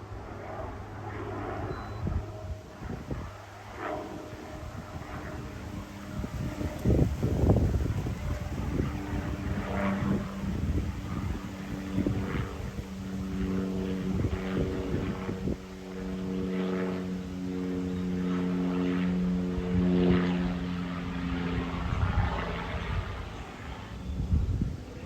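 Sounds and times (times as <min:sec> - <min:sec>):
propeller plane passing over: 0:00.0 - 0:25.0
wind rumble on microphone: 0:00.4 - 0:25.0.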